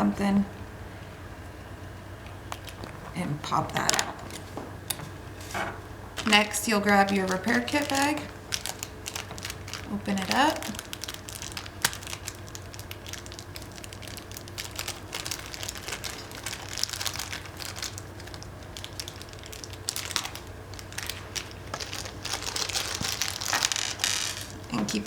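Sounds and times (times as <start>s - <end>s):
plastic bag crinkling: 2.5s - 25.0s.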